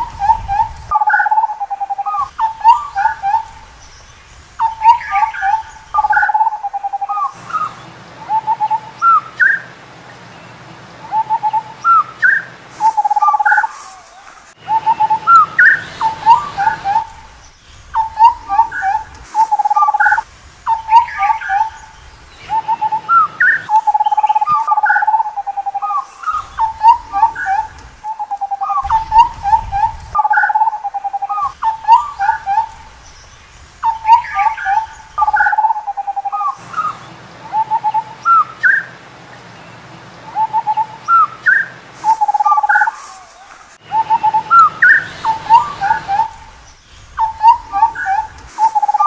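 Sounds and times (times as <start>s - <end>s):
bird whistled hoots: 0.0s - 9.8s, 11.0s - 39.0s, 40.3s - 49.0s.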